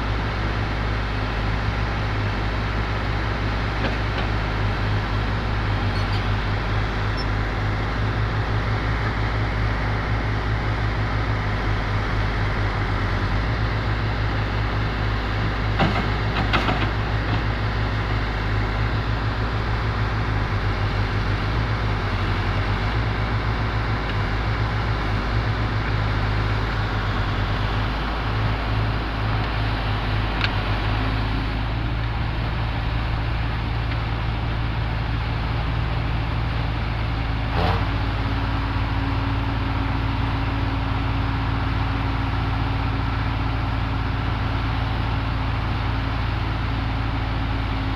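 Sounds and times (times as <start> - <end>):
diesel engine running under load: 0.0 - 47.9.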